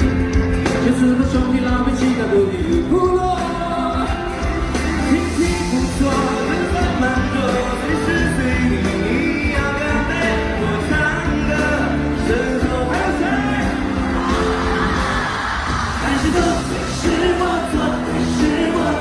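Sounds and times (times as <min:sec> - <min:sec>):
pop-rock band playing live: 0:00.0 - 0:19.0
men singing: 0:00.8 - 0:19.0.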